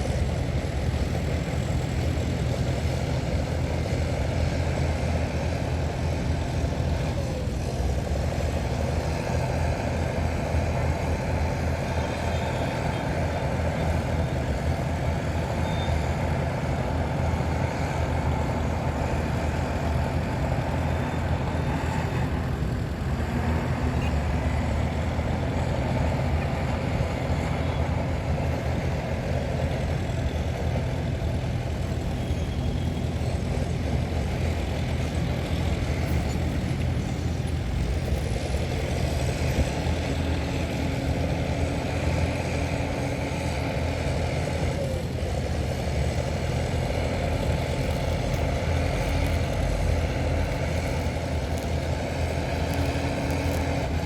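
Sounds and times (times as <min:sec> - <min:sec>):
heavy machinery diesel engines droning: 0:00.0 - 0:54.0.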